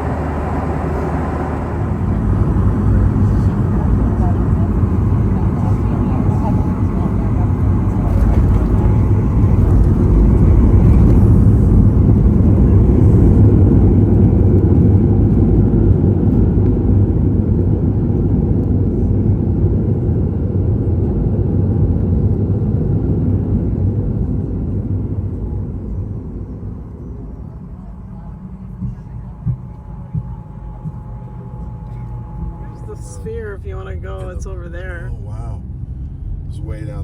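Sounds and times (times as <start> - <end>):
jet engine rumble in cabin: 0.0 - 37.0.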